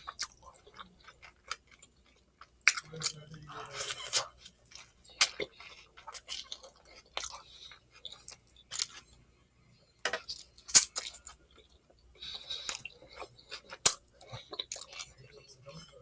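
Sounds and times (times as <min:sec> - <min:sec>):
close chewing with crunches: 0:00.0 - 0:09.2, 0:10.1 - 0:16.0.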